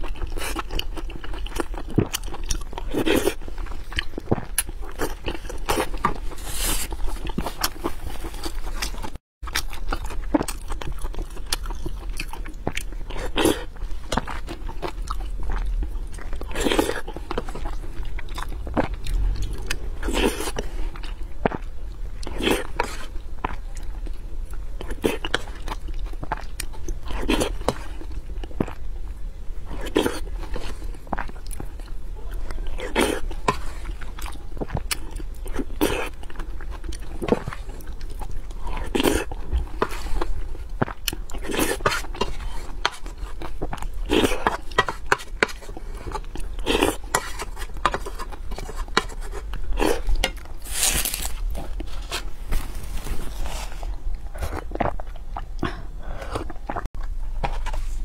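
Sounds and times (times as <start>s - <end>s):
woman chewing and smacking: 0.0s - 52.4s, 53.8s - 57.6s
steady low hum: 0.0s - 58.0s.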